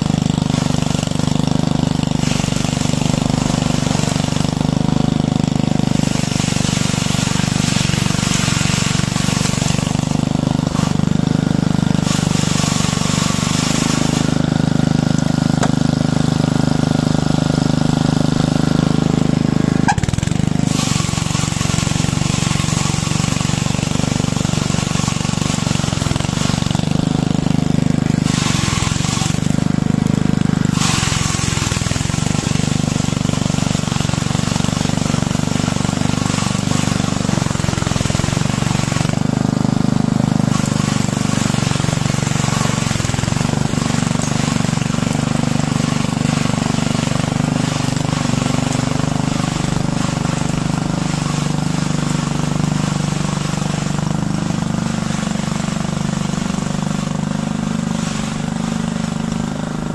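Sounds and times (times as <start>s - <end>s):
brush scraping paving stones: 0.0s - 59.9s
small petrol engine running: 0.0s - 59.9s.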